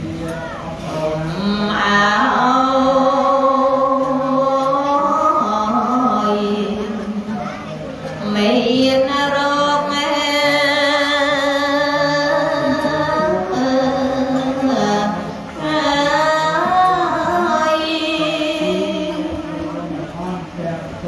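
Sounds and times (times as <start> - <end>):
woman chanting into a microphone: 0.9 - 7.5, 8.2 - 20.2.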